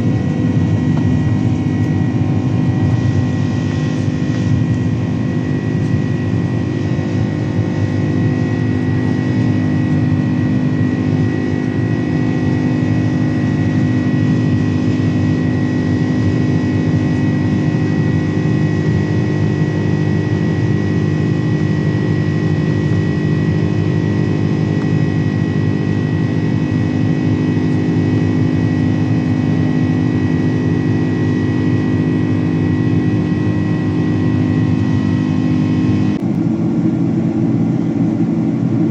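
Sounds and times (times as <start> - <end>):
airliner cabin engine noise: 0.0 - 38.9
high whine: 0.0 - 38.9.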